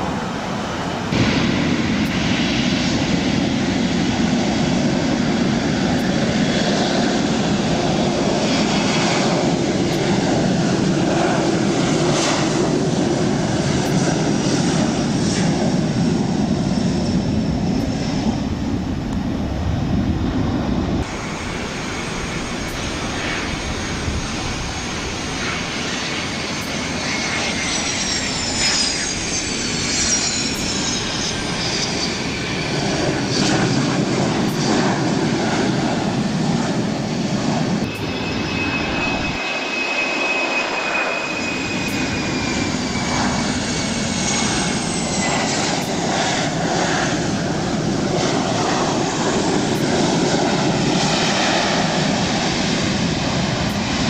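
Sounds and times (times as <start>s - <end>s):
jet engine rumble: 0.0s - 54.0s
turbine whine gliding down: 0.0s - 54.0s.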